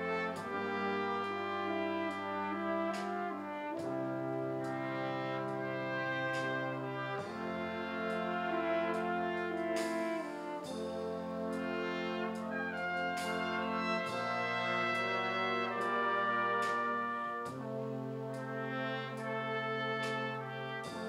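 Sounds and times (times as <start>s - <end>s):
brass ensemble playing chords: 0.0s - 21.0s.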